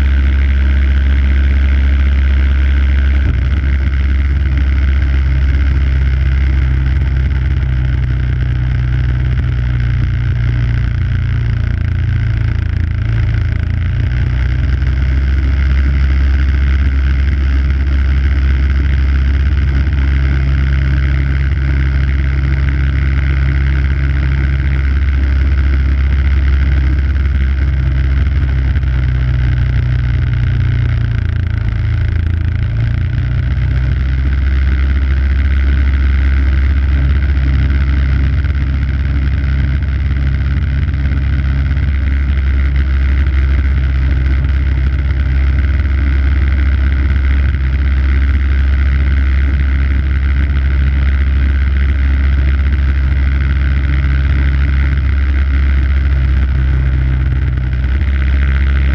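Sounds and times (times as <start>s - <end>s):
snow blower engine running: 0.0s - 58.9s.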